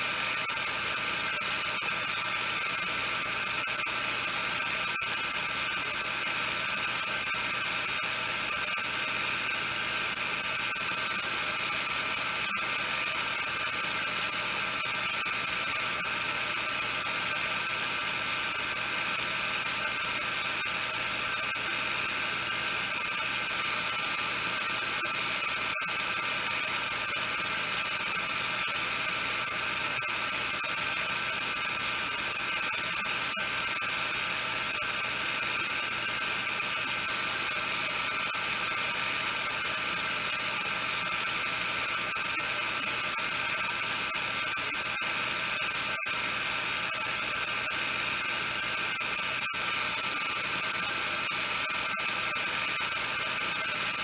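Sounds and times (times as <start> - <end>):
constant whine: 0.0 - 54.0.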